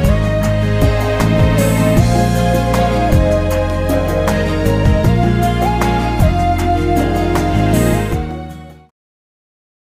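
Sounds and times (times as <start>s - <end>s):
instrumental background music: 0.0s - 8.9s.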